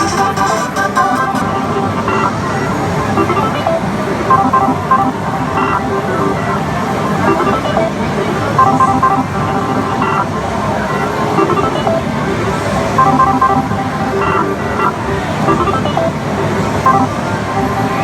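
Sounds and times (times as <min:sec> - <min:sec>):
slot machine beeps and jingles: 0:00.0 - 0:18.0.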